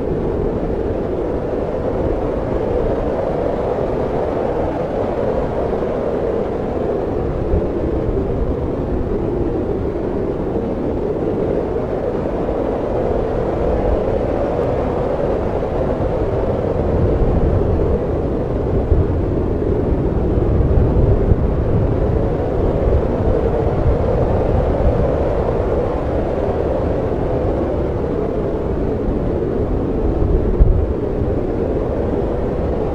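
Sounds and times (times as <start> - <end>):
snowstorm wind with low rumble: 0.0 - 32.9.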